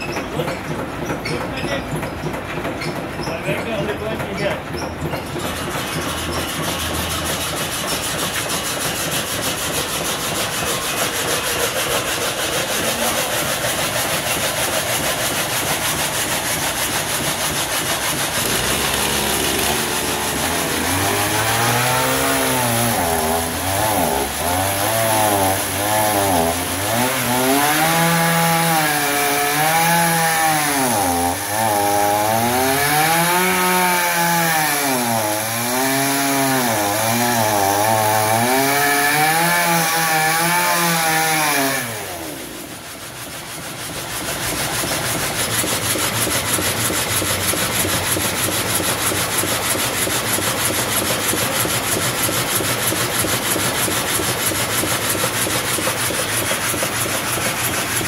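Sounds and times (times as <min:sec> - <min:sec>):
chainsaw cutting log: 0:00.0 - 0:58.0
sawmill machinery rasping: 0:00.0 - 0:58.0.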